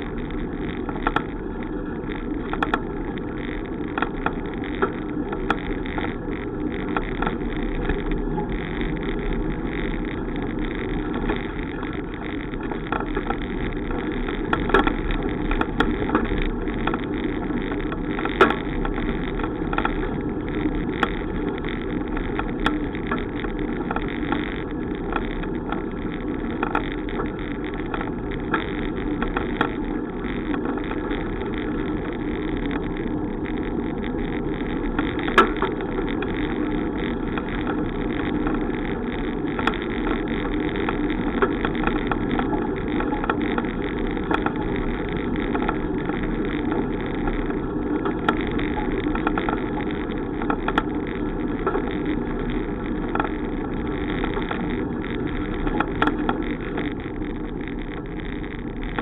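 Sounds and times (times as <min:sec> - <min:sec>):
bicycle clicks and rattles: 0:00.0 - 0:59.0
bicycle riding rush: 0:00.0 - 0:59.0.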